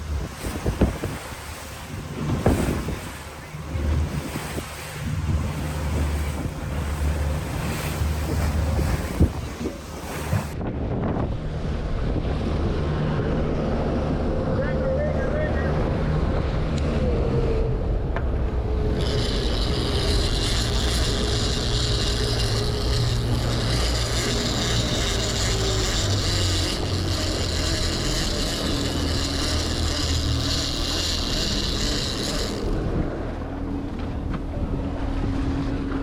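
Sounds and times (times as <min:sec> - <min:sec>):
boat engine running: 0:00.0 - 0:36.0
high whir: 0:00.0 - 0:36.0.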